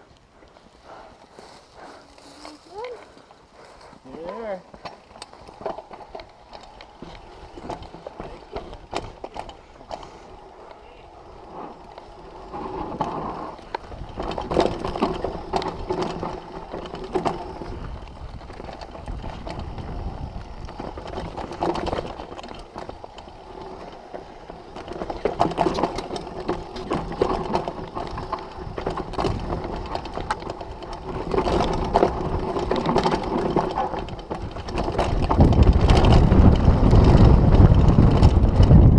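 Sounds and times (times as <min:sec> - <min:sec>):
tyres on dirt: 0:00.0 - 0:38.9
bike chain clicking and rattling: 0:00.8 - 0:38.9.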